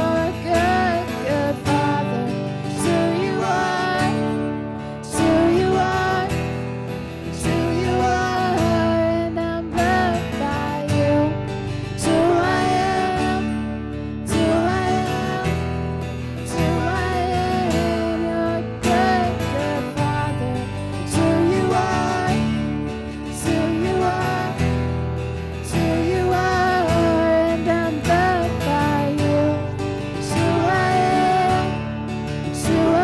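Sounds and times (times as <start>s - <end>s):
person singing: 0.0s - 33.0s
strummed acoustic guitar: 0.0s - 33.0s.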